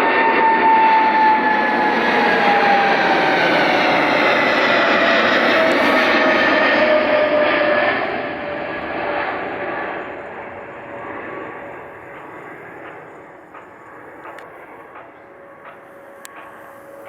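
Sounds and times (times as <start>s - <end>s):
jet engines roaring past: 0.0s - 17.0s.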